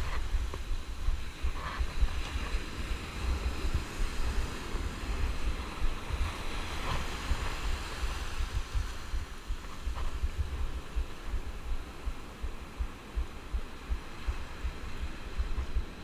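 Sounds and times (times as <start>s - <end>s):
ocean surf breaking on beach: 0.0s - 16.0s
wind buffeting microphone: 0.0s - 16.0s.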